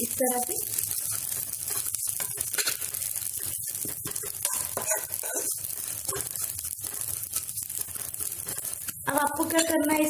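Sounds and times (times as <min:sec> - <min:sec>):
spoon scraping pan: 0:00.0 - 0:09.8
vermicelli crackling in hot fat: 0:00.0 - 0:10.0.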